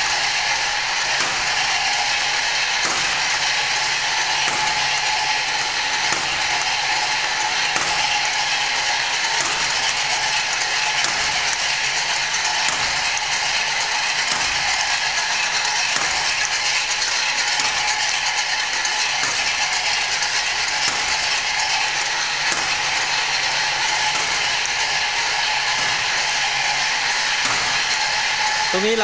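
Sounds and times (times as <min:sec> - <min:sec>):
faint motor whine: 0:00.0 - 0:29.0
machine metallic rattle and clatter: 0:00.0 - 0:29.0.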